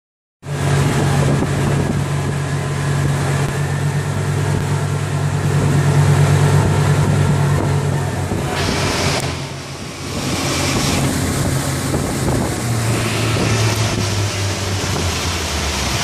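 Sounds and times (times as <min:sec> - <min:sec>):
boat engine droning: 0:00.4 - 0:16.0
water and wind hiss: 0:00.5 - 0:16.0.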